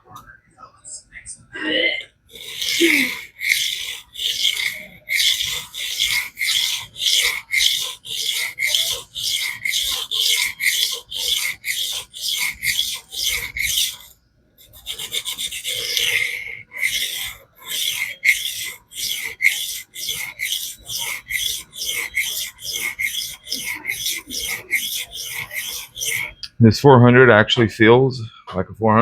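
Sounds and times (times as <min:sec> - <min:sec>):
knife scraping on sharpening plate: 0:02.4 - 0:26.5.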